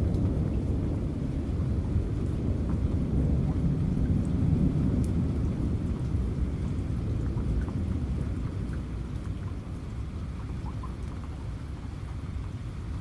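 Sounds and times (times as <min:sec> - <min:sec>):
distant thunder rumble: 0:00.0 - 0:11.3
steady rain: 0:00.0 - 0:13.0.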